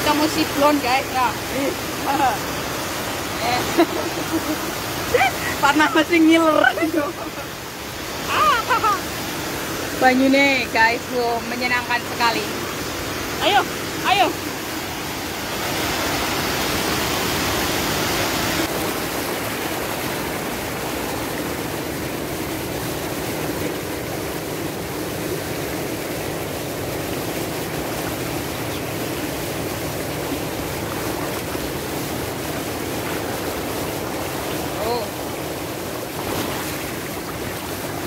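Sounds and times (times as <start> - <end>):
stream rushing over rocks: 0.0 - 38.0.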